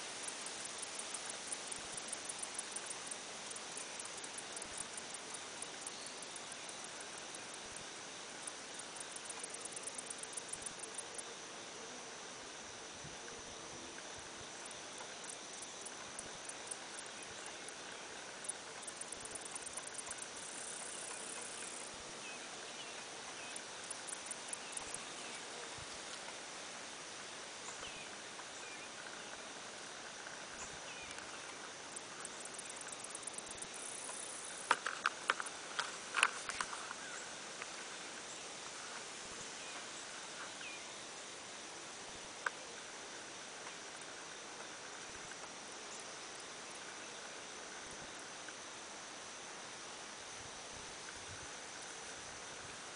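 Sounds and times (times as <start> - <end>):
insect drone: 0.0 - 52.9
rapid high insect ticking: 0.0 - 52.9.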